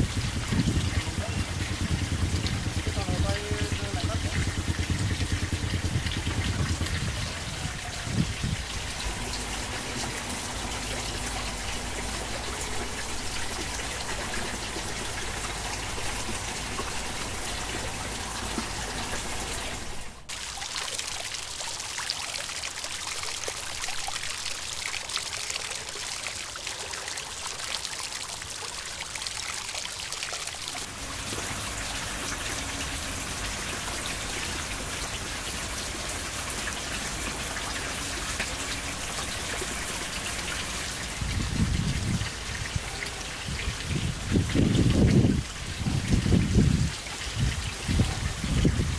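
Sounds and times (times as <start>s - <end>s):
water pouring and trickling: 0.0s - 48.9s.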